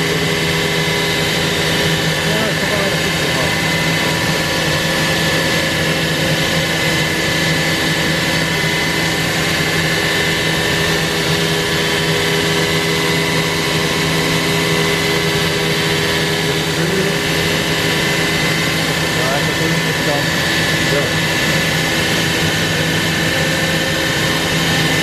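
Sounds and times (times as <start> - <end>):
cnc router running: 0.0 - 25.0.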